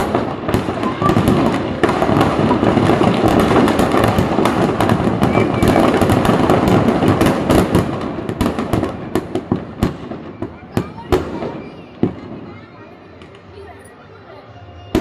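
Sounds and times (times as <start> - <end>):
firecrackers crackling: 0.0 - 14.0, 14.8 - 15.0.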